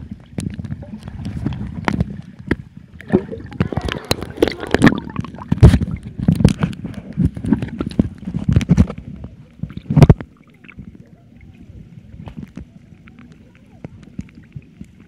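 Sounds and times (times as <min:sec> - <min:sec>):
muffled underwater hush: 0:00.0 - 0:15.0
water splashing and sloshing: 0:00.0 - 0:15.0.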